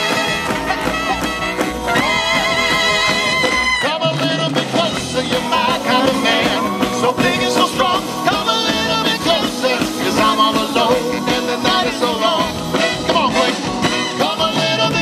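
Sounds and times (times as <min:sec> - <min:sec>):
person singing: 0:00.0 - 0:15.0
swing band playing: 0:00.0 - 0:15.0.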